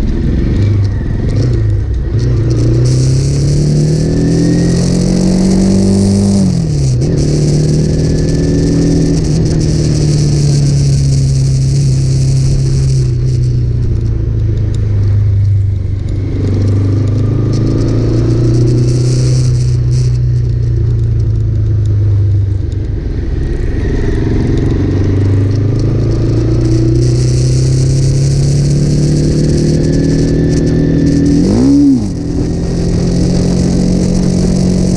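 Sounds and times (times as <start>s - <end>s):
motorcycle exhaust engine running: 0.0s - 34.9s.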